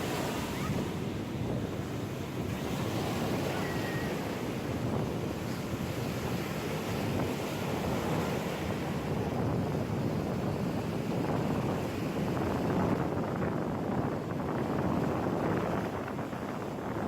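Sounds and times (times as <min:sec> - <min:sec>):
ocean surf on shore: 0:00.0 - 0:17.0
wind buffeting microphone: 0:00.0 - 0:17.0.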